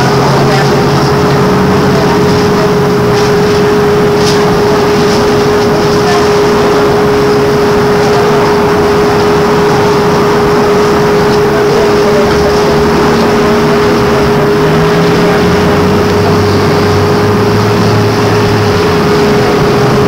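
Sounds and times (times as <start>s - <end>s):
low-pitched sound: 0.0s - 20.0s
road rumble: 0.0s - 20.0s
steady electric hum: 0.0s - 20.0s.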